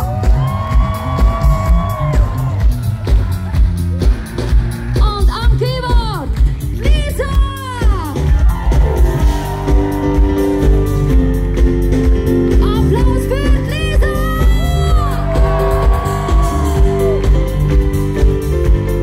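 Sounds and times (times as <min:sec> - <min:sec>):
live band playing pop music: 0:00.0 - 0:19.0.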